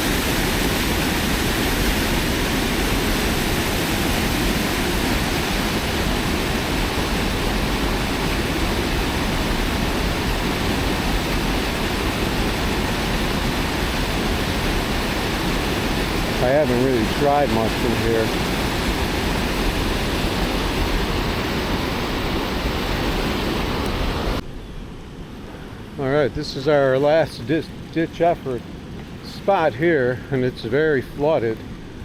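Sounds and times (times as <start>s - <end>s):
fast river rushing: 0.0s - 24.4s, 25.2s - 32.0s.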